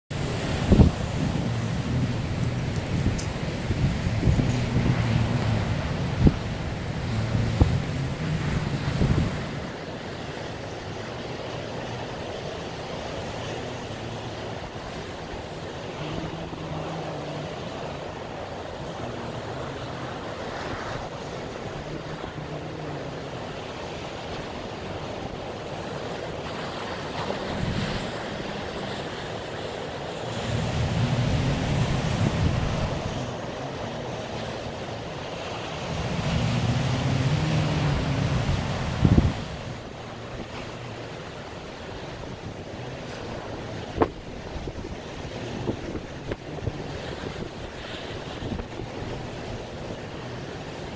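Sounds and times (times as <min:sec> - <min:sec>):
wind buffeting microphone: 0:00.1 - 0:11.2, 0:11.8 - 0:50.9
heavy surf breaking on shore: 0:00.1 - 0:50.9.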